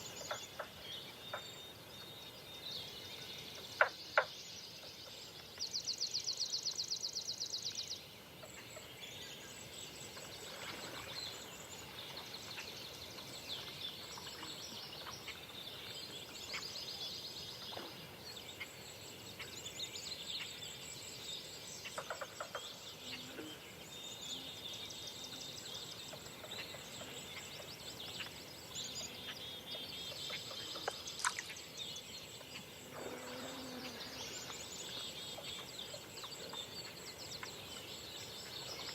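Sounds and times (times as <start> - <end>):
birds singing and calling: 0.0 - 38.9.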